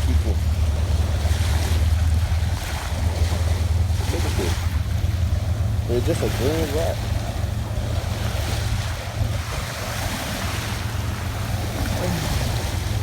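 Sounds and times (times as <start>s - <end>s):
ocean surf on rocky beach: 0.0s - 13.0s
wind buffeting microphone: 0.0s - 13.0s.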